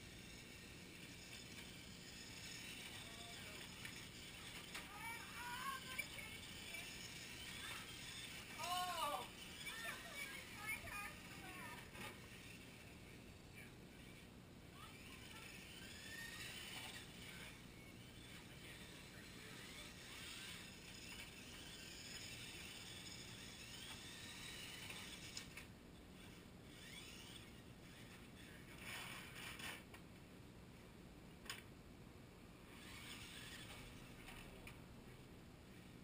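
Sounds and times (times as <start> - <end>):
toy car motors whining: 0.0 - 29.9, 32.7 - 34.8.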